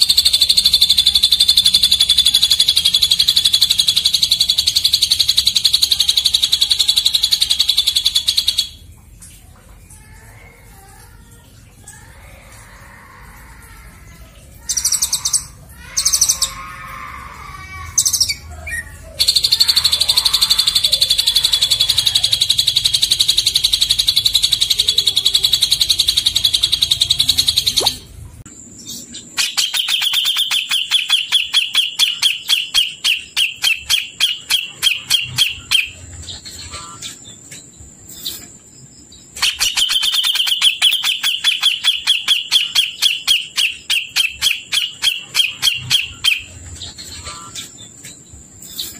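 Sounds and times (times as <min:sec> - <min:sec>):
rapid repeated bird notes: 0:00.0 - 0:12.8, 0:13.6 - 0:48.9
songbird chirps and trill: 0:00.0 - 0:48.9.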